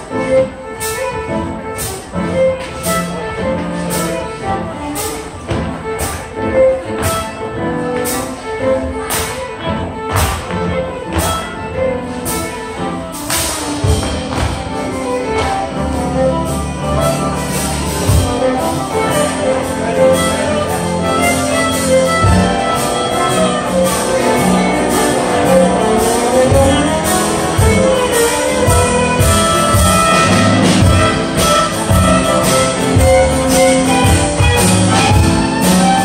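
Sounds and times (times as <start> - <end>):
live dance music with fiddle: 0.0 - 36.0.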